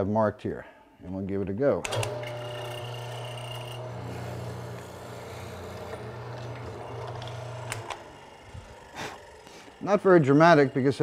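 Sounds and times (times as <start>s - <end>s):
mortising machine motor running: 1.9s - 11.0s.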